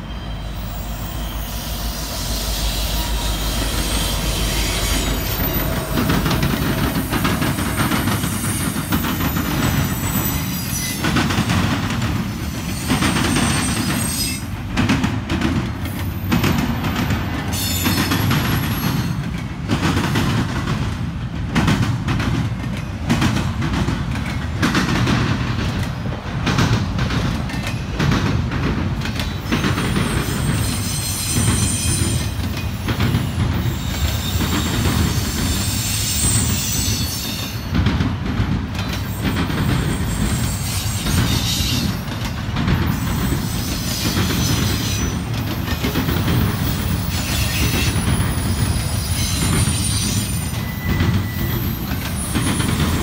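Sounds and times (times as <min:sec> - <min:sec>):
diesel locomotives rumbling: 0:00.0 - 0:53.0
train wheels clattering over rail joints: 0:02.2 - 0:53.0.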